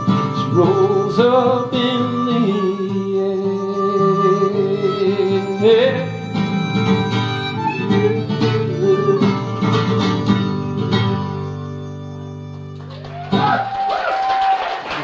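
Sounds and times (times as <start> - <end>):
sustained bowed string tone: 0.0 - 12.5
guitar and plucked strings: 0.0 - 13.7.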